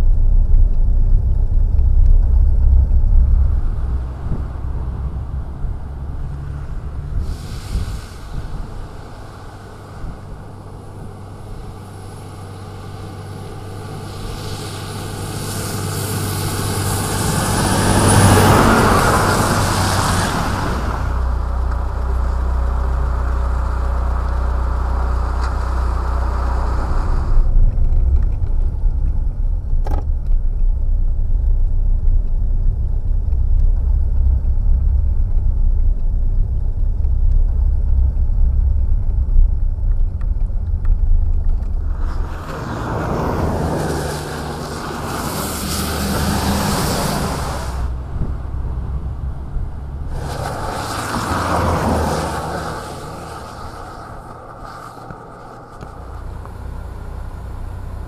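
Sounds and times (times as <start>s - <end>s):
steady low rumble: 0.0s - 58.0s
vehicle passing close: 1.0s - 29.8s, 33.5s - 58.0s.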